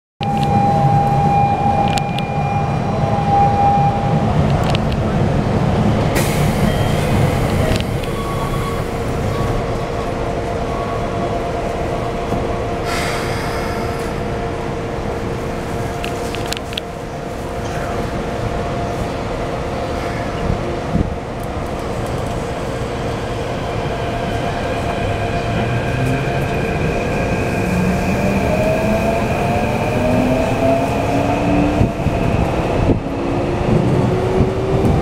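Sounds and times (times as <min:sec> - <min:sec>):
train rumble and hum: 0:00.2 - 0:35.0.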